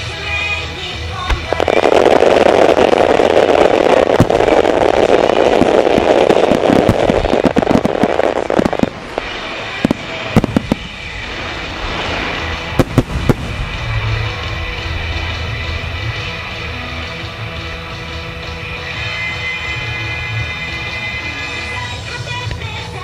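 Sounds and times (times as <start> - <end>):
fireworks bangs and crackle: 0.0 - 23.0
steady rush of noise: 0.0 - 23.0.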